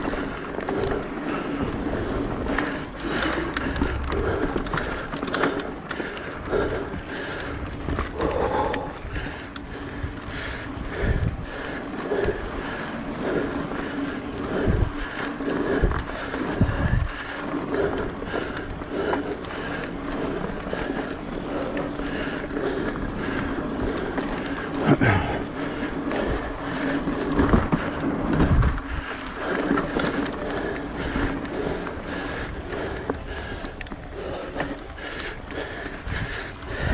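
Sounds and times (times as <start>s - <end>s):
bike tyres rolling over dirt: 0.0s - 36.9s.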